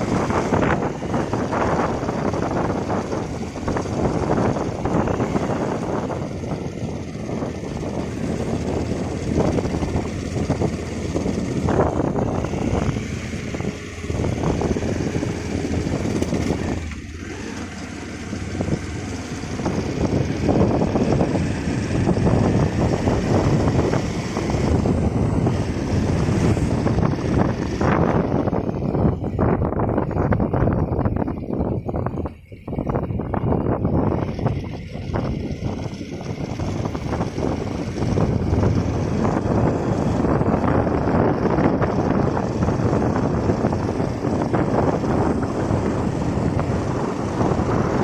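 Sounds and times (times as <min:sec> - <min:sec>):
motorbike running: 0:00.0 - 0:48.0
wind buffeting microphone: 0:00.0 - 0:48.0.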